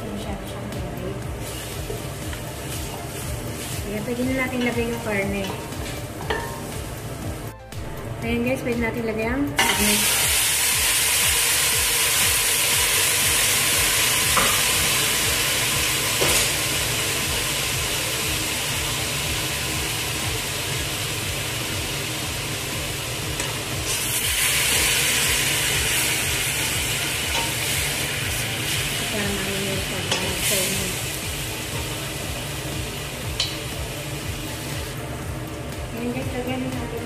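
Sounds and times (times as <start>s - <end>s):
meat sizzling in hot oil: 1.3s - 7.2s, 9.6s - 35.9s.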